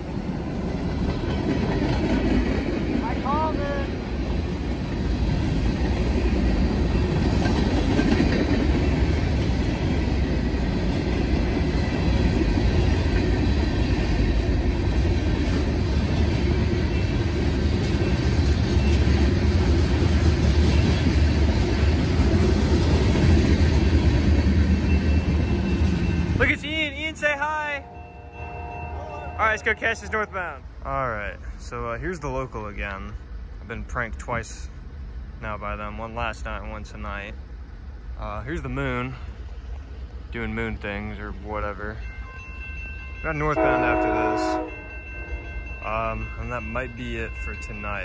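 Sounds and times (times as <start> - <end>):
freight train wheels rumbling on rail: 0.0 - 48.0.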